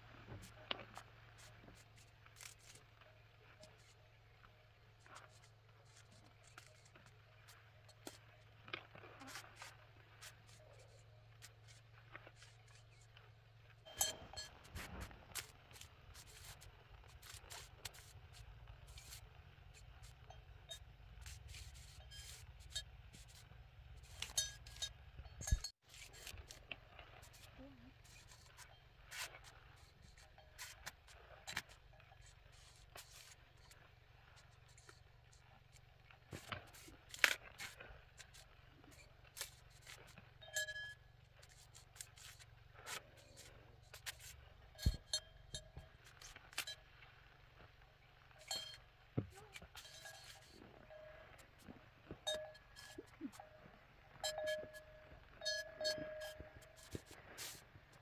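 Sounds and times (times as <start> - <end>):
light clinks and scrapes: 0.0 - 58.0.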